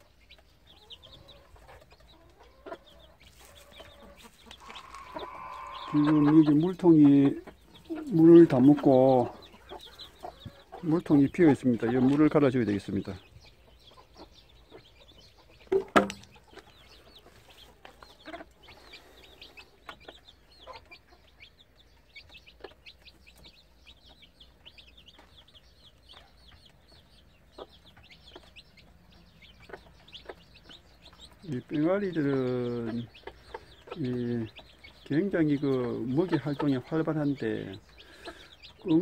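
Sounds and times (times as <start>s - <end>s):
chicks peeping: 0.0s - 39.0s
hen clucking: 0.0s - 39.0s.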